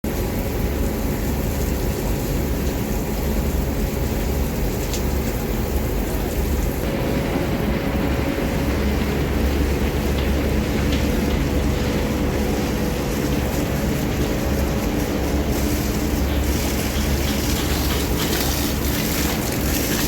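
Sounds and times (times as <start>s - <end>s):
diesel engine rumbling: 3.2s - 20.0s.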